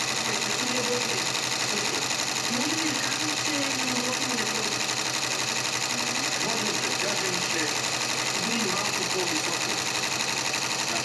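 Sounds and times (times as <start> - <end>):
embroidery machine stitching: 0.0 - 11.0.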